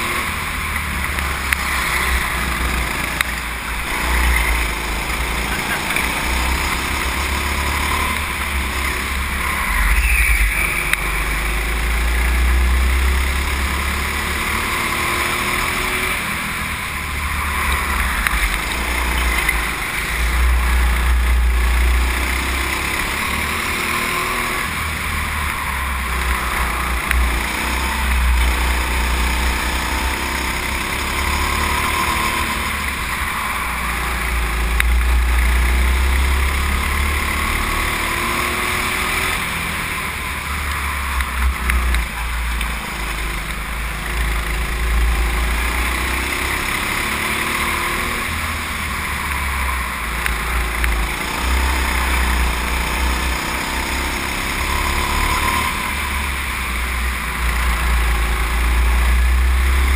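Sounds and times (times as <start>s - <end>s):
go-kart engine: 0.0s - 59.9s.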